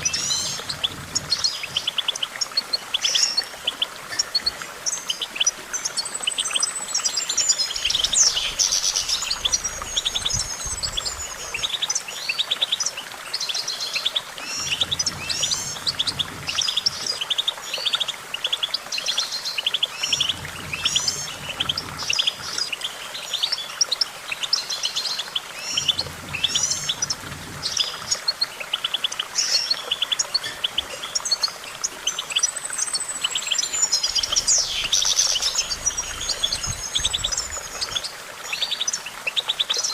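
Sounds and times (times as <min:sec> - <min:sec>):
finch twittering song: 0:00.0 - 0:39.0.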